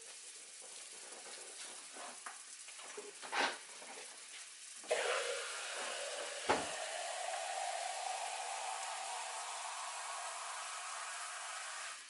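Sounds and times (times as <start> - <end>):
roux sizzling in a skillet: 0.0 - 12.0.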